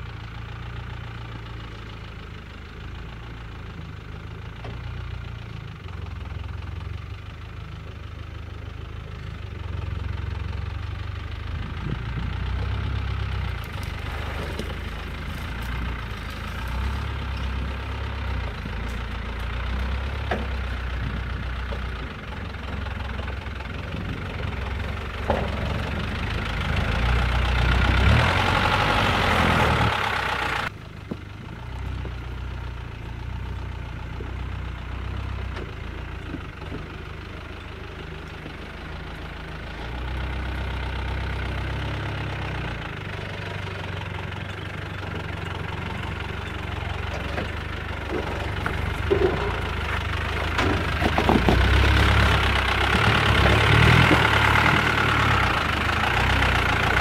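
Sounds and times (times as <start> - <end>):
off-road vehicle engine at low revs: 0.0 - 57.0.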